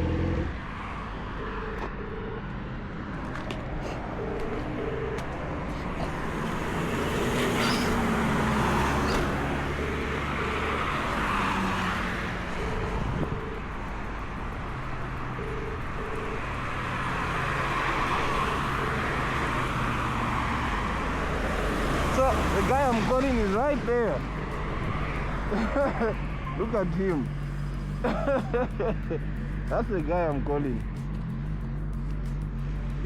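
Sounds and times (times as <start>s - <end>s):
low engine hum: 0.0s - 33.0s
vehicles passing: 0.0s - 33.0s.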